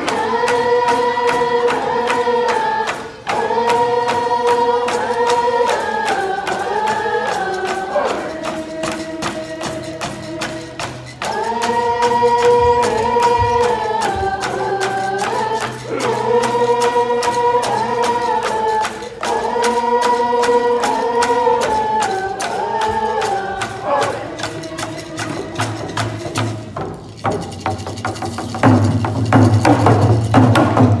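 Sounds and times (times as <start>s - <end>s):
group singing in unison: 0.0s - 27.4s
frame drums beating: 0.0s - 31.0s.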